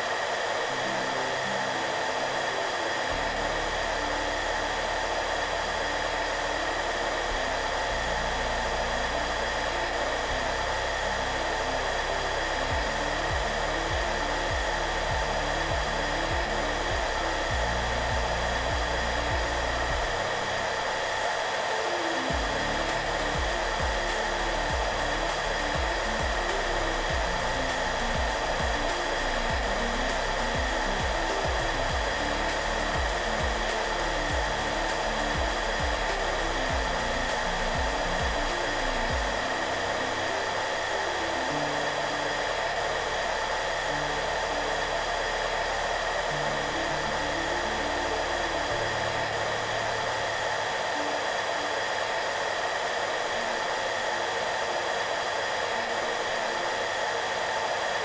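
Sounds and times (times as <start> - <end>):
hair dryer running: 0.0 - 58.0
soft background music: 0.0 - 58.0.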